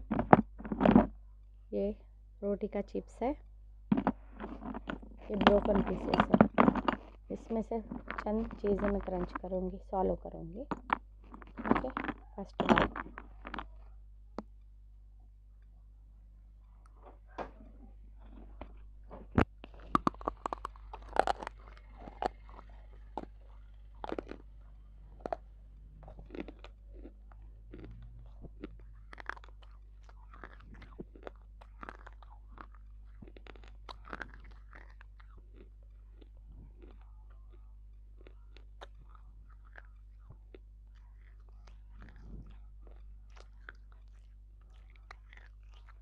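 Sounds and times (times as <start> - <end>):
crunchy chewing: 3.9 - 9.8, 10.6 - 14.6, 18.2 - 46.0.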